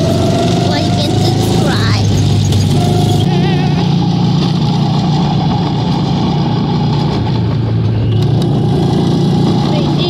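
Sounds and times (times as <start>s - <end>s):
vehicle engine drone from inside: 0.0s - 10.0s.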